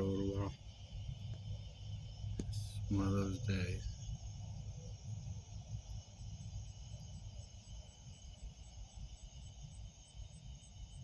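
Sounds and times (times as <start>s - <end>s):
faint pulsing trill: 0.0s - 11.0s
insects chirping: 0.0s - 11.0s
wind rumbling on microphone: 0.0s - 11.0s.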